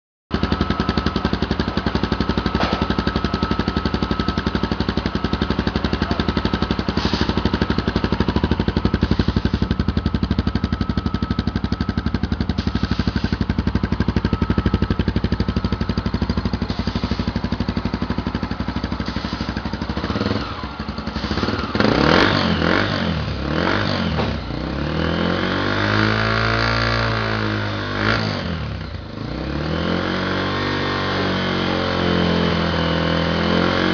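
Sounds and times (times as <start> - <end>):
motorcycle idling and revving: 0.3 - 33.9.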